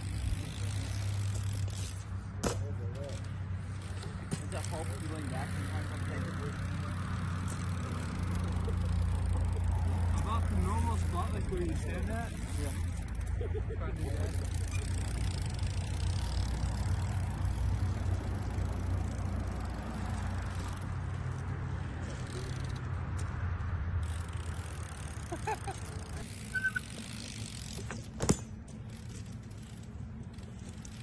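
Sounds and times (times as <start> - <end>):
bike tyres rolling on concrete: 0.0 - 31.0.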